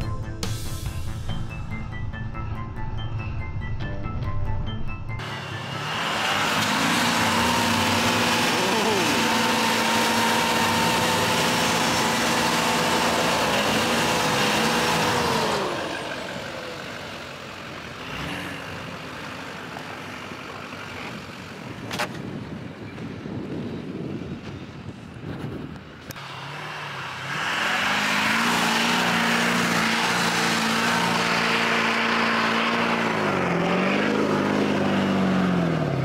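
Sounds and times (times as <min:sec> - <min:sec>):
engine running hard: 0:05.2 - 0:36.0.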